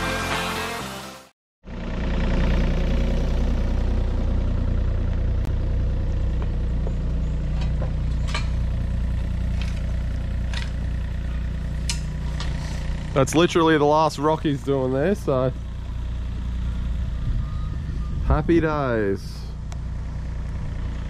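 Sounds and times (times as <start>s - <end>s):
excavator diesel engine running: 1.6s - 21.0s.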